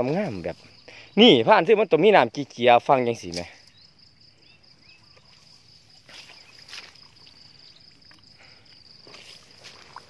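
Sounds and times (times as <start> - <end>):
high insect trill: 0.0 - 10.0.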